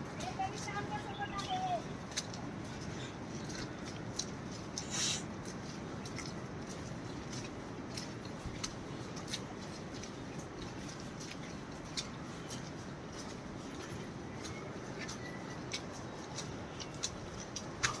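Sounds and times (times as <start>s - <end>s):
rustling with crackles and clicks: 0.0s - 18.0s.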